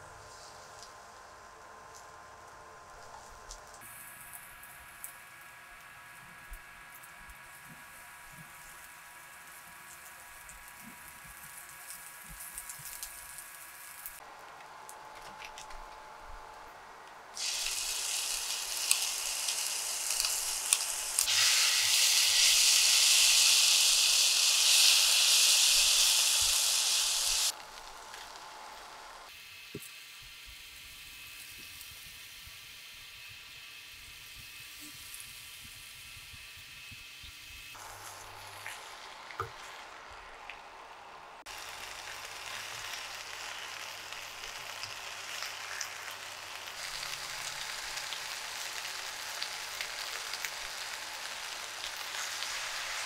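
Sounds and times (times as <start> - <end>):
loud sizzle of paste in oil: 0.2 - 14.3, 14.9 - 53.0
shallots frying in oil: 0.3 - 53.0.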